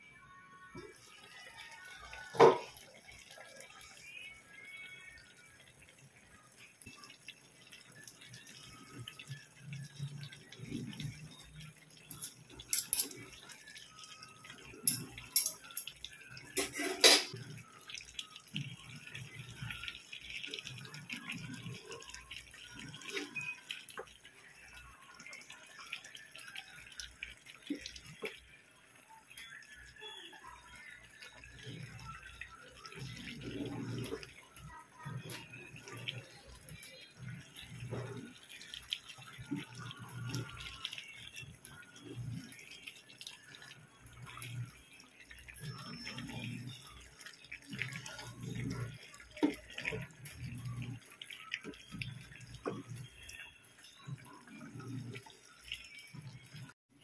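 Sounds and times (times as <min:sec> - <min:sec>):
stew bubbling in a pan: 0:00.4 - 0:57.0.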